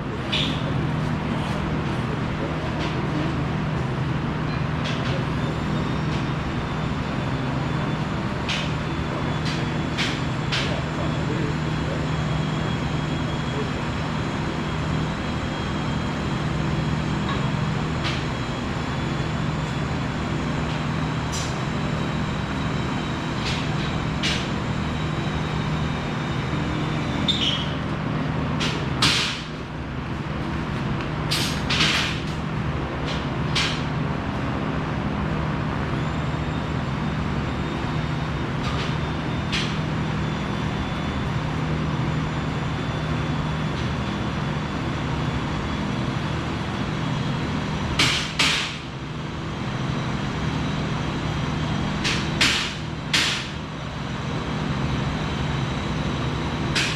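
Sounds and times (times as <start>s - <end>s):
machinery hum: 0.0s - 56.9s.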